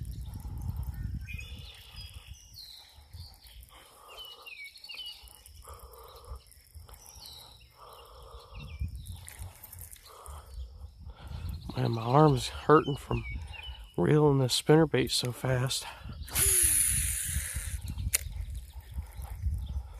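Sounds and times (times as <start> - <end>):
wind rumble on microphone: 0.0 - 3.8, 5.1 - 14.1, 15.8 - 19.9
birds chirping: 0.0 - 19.9.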